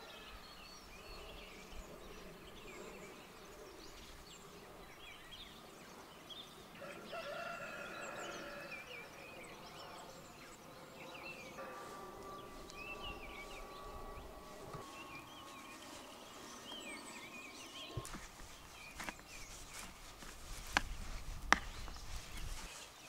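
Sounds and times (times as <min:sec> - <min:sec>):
faint steady hum: 0:00.0 - 0:22.7
birds chirping: 0:00.0 - 0:23.0.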